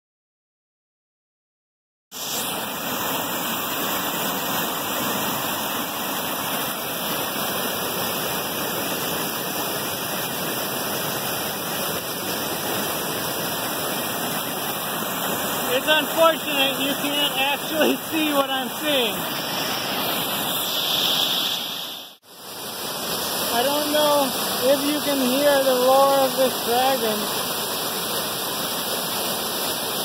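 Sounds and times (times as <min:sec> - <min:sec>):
roar of rushing stream: 0:02.2 - 0:30.0.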